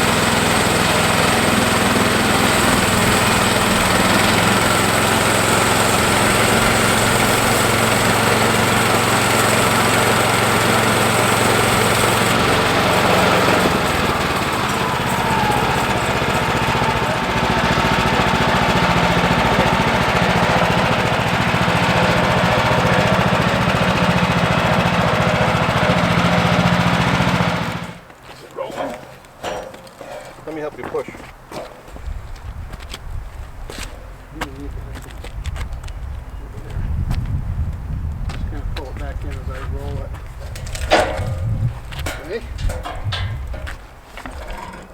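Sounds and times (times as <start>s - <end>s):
band saw cutting log: 0.0s - 31.9s, 40.4s - 44.9s
gasoline engine running: 0.0s - 44.9s.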